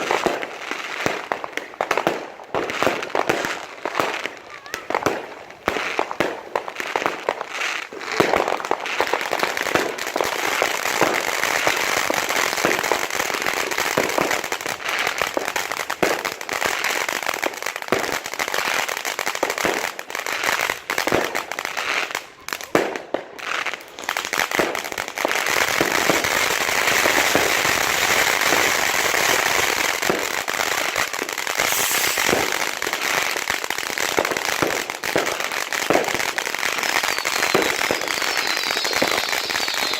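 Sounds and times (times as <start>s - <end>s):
fireworks bangs: 0.0s - 18.8s, 20.6s - 39.9s
firecrackers crackling: 0.0s - 39.9s.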